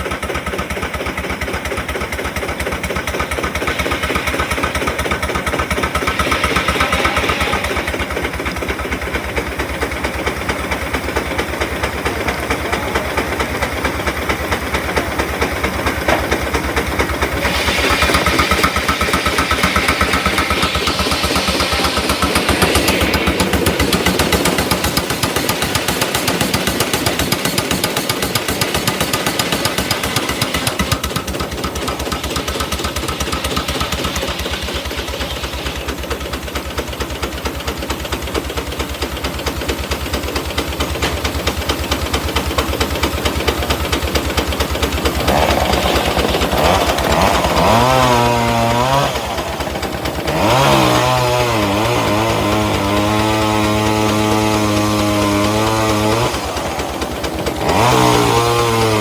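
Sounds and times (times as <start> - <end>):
engine knocking: 0.0 - 59.0.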